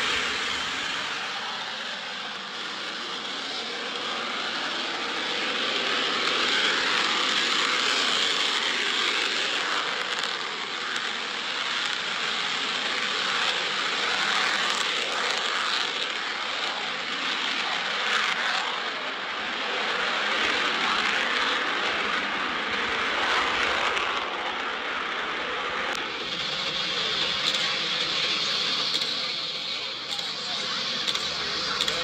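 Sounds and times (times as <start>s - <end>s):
jet engine roaring: 0.0s - 32.0s.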